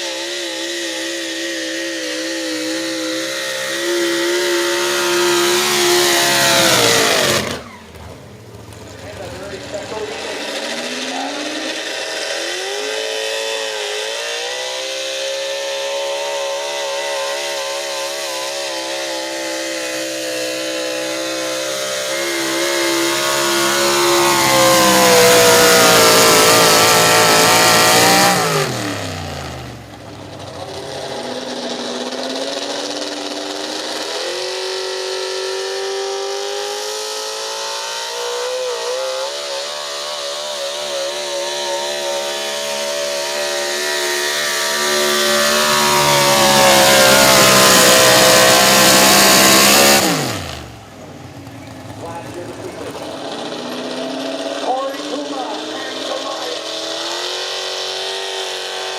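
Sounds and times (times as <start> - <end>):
truck engine revving: 0.0 - 58.9.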